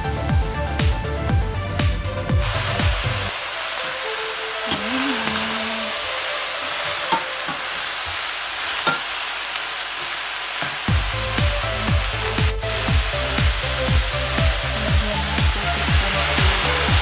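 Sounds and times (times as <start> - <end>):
food sizzling in a pot: 2.4 - 17.0.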